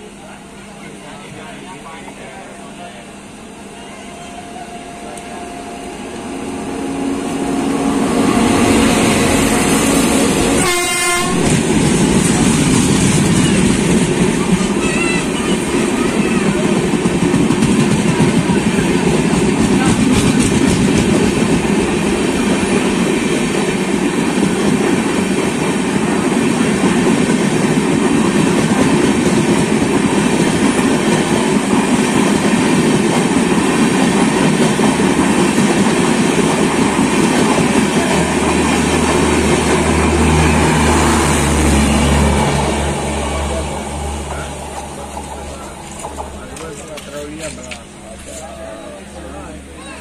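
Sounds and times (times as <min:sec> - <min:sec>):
train wheels rushing on rail: 0:00.0 - 0:50.0.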